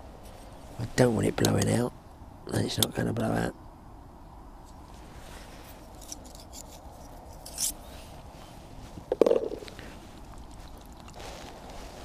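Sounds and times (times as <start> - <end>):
faint steady hiss: 0.0 - 6.1, 6.8 - 12.0.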